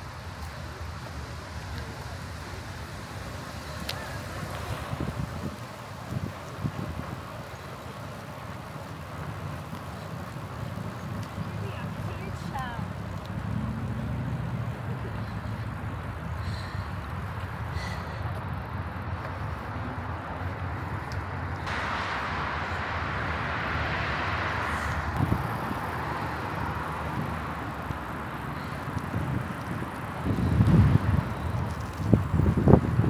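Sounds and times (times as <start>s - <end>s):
wind and tyre rumble: 0.0s - 33.0s
wind buffeting microphone: 0.0s - 33.0s.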